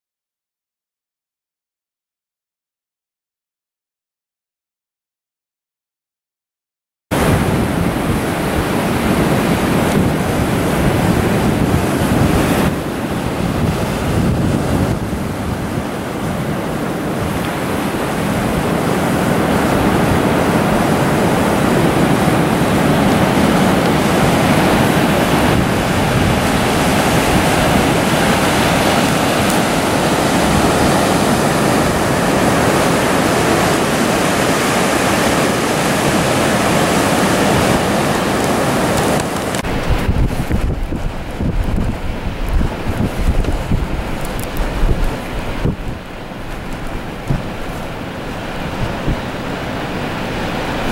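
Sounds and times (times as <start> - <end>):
surf breaking on a beach: 7.1 - 50.9
wind buffeting microphone: 7.1 - 50.9.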